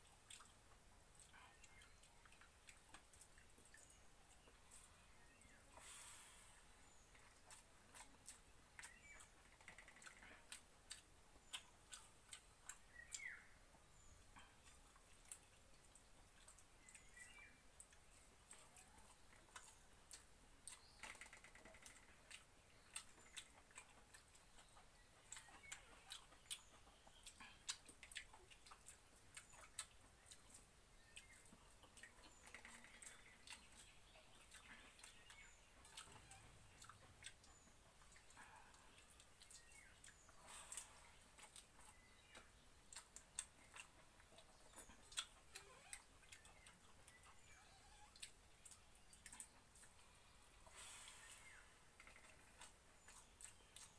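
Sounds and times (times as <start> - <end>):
chewing clicks and smacks: 0.0 - 5.6, 7.1 - 13.5, 14.4 - 50.1, 51.2 - 53.9.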